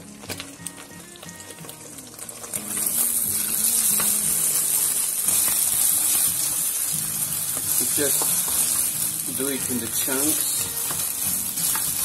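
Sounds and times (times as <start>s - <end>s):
egg sizzling in a frying pan: 0.0s - 12.0s.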